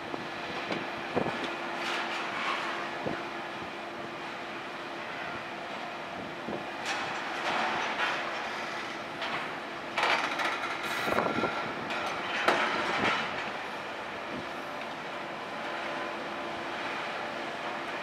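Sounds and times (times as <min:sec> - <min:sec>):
heavy machinery running: 0:00.0 - 0:18.0.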